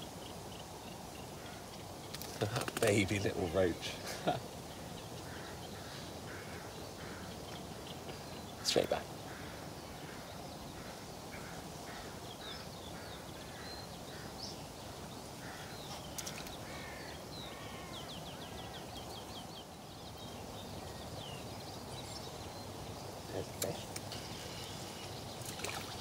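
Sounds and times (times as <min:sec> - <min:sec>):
birds calling and singing: 0:00.0 - 0:26.0.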